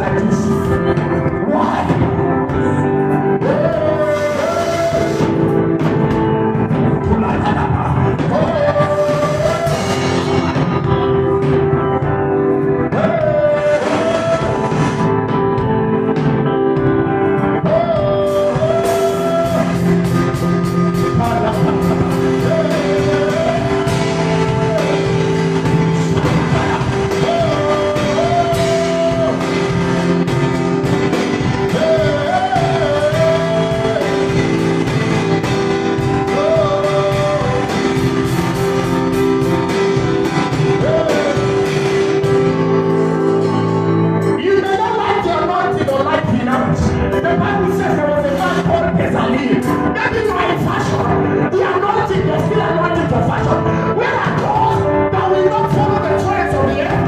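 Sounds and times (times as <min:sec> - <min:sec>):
held keyboard chords: 0:00.0 - 0:57.0
person singing: 0:00.0 - 0:57.0.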